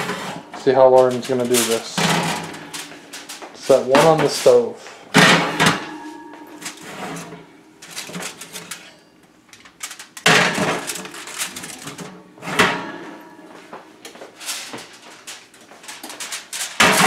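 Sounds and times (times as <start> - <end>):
metal baking pans scraping oven racks: 0.0 - 9.0, 9.6 - 13.5, 14.4 - 17.0.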